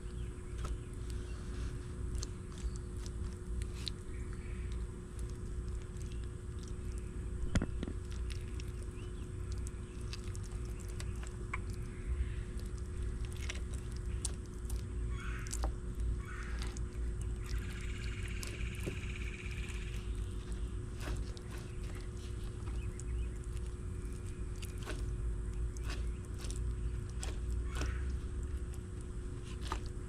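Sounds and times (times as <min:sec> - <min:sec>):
reptile biting and chewing food: 0:00.0 - 0:30.0.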